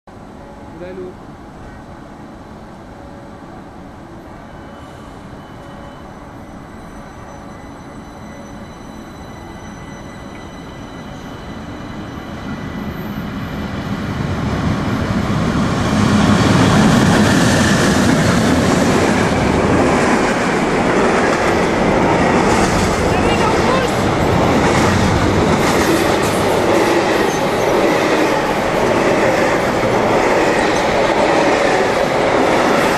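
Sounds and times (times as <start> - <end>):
freight train rumbling past: 0.1 - 32.9.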